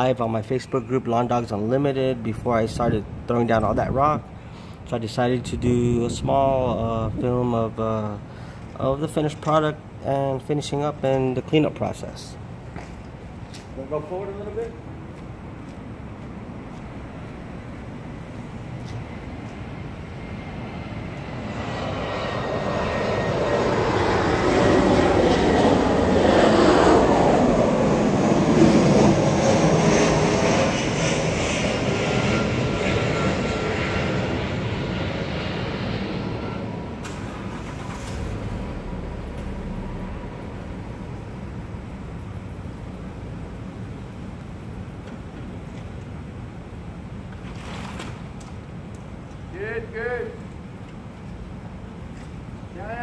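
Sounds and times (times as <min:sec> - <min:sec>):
airplane engine rushing: 0:00.0 - 0:53.0.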